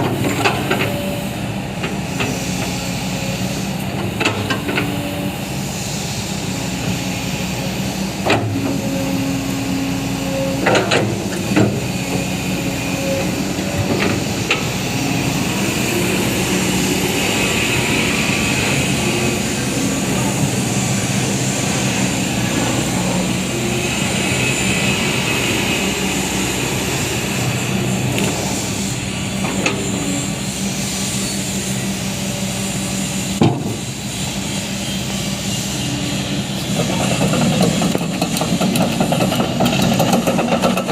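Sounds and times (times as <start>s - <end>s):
excavator diesel engine running: 0.0s - 40.9s
hydraulic whine: 0.0s - 40.9s.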